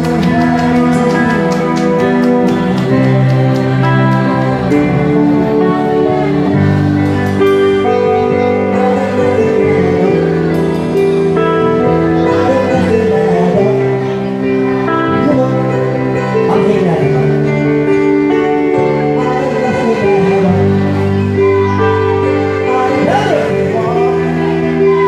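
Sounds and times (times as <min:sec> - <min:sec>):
band playing with guitar: 0:00.0 - 0:25.0.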